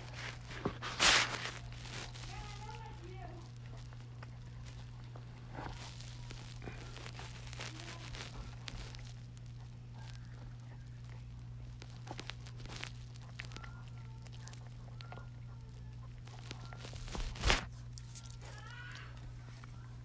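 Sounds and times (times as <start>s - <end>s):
dog chewing a treat: 0.0s - 20.0s.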